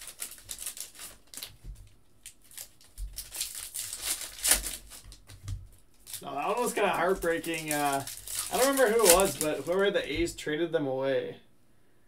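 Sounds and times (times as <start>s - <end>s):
cards shuffling: 0.0s - 9.9s
foil wrappers crinkling: 0.0s - 10.1s.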